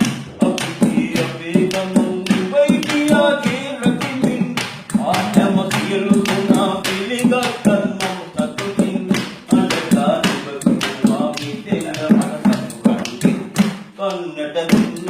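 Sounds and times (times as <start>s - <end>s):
person singing: 0.0s - 15.0s
sharp tapped beat: 0.0s - 15.0s.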